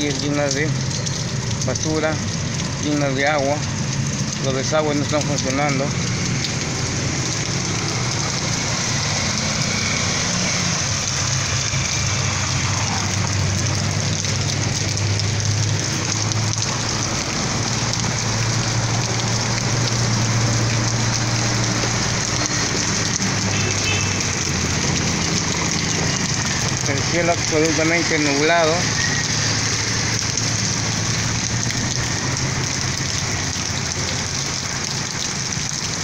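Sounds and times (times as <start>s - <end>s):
heavy rain on pavement: 0.0s - 36.0s.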